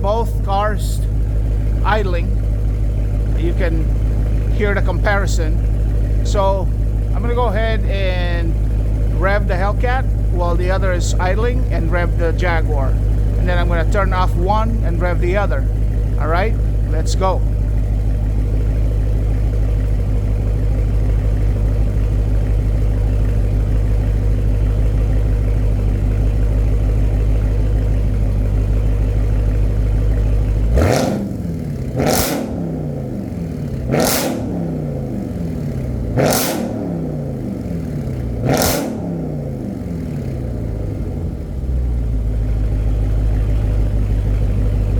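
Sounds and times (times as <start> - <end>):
car exhaust idling: 0.0 - 44.9
engine revving in blips: 0.0 - 44.9.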